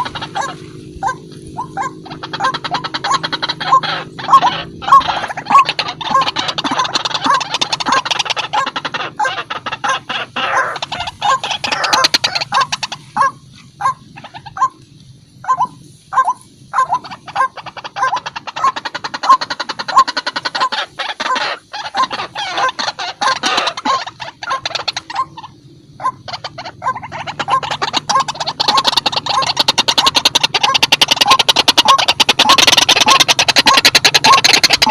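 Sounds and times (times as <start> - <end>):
short croaks: 0.0 - 34.9
waterhen calling: 0.0 - 34.9.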